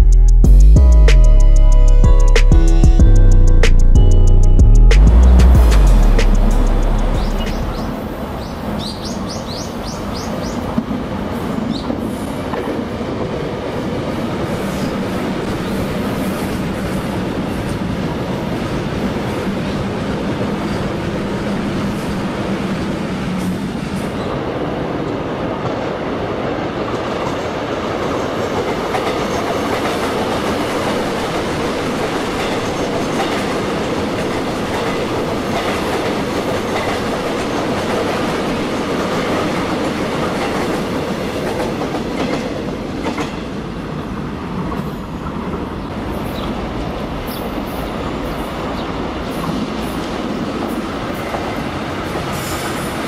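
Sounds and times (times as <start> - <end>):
train wheels rumbling on rail: 5.0 - 53.0.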